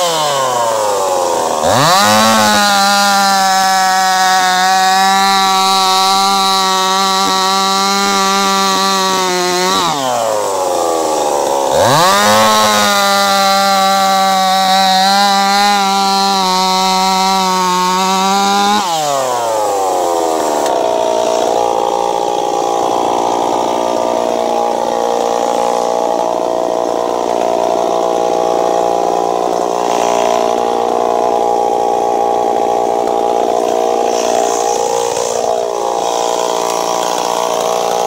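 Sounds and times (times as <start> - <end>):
chainsaw cutting log: 0.0 - 38.0.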